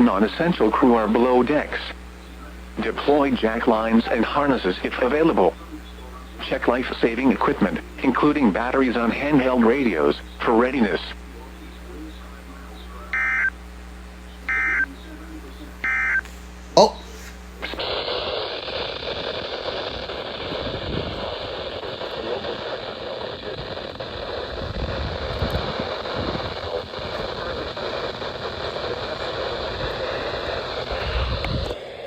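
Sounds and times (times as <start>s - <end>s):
radio static hiss: 0.0s - 32.0s.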